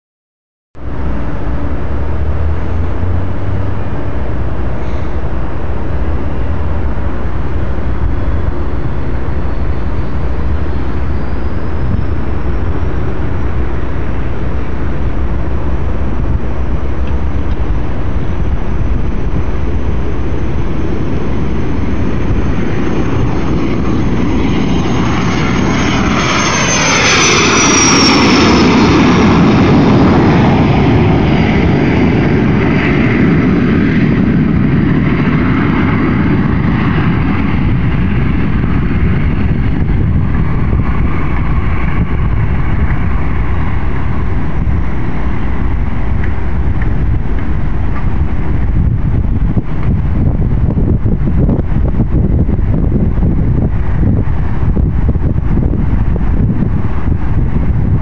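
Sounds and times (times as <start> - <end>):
high turbine whine: 0.8 - 58.0
jet taking off: 0.8 - 58.0.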